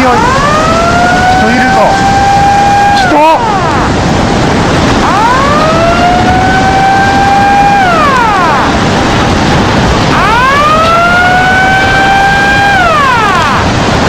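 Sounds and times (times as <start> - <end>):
loud steady rushing noise: 0.0 - 14.0
warning siren wailing: 0.0 - 14.0.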